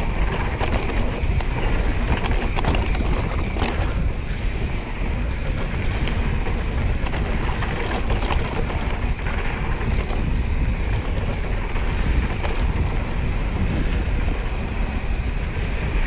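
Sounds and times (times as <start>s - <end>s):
bike clicks and rattles: 0.0s - 16.0s
tyres crunching on dirt trail: 0.0s - 16.0s
wind buffeting microphone: 0.0s - 16.0s.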